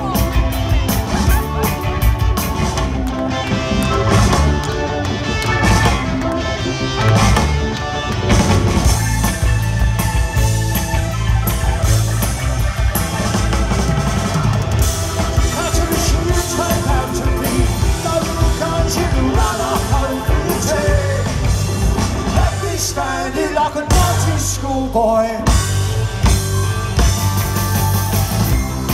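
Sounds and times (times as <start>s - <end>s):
rock band playing loud: 0.0s - 28.9s.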